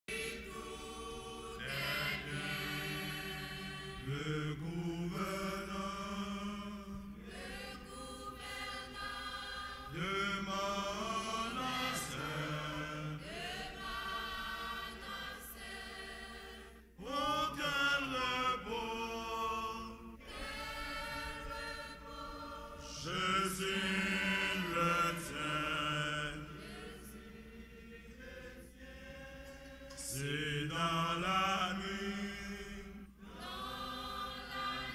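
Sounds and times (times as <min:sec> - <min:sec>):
women's choir singing: 0:00.1 - 0:34.9.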